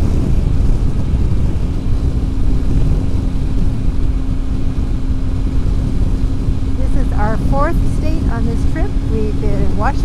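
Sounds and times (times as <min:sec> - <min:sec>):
motorcycle engine droning: 0:00.0 - 0:10.0
wind rushing past microphone: 0:00.0 - 0:10.0.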